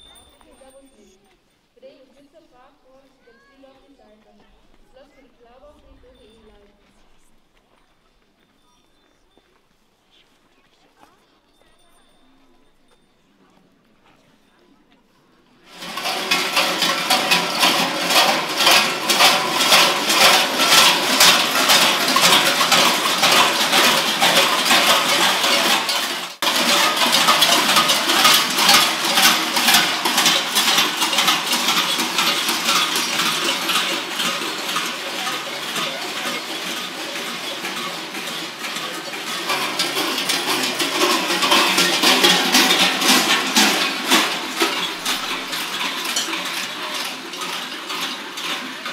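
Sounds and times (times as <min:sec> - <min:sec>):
large cowbells clanging: 0:00.0 - 0:48.9.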